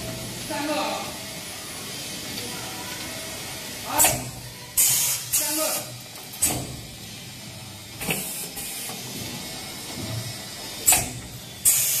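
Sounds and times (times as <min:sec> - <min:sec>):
machine whirring and clicking: 0:01.2 - 0:12.0.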